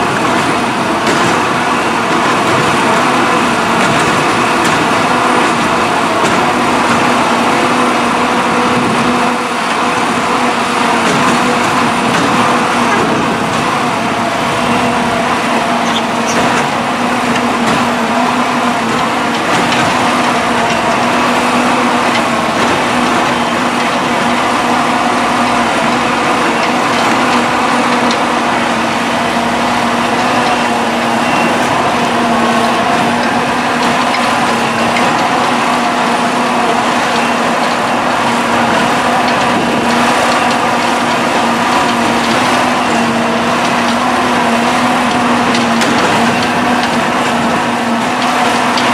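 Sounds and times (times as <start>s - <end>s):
machine engine droning: 0.0s - 48.9s.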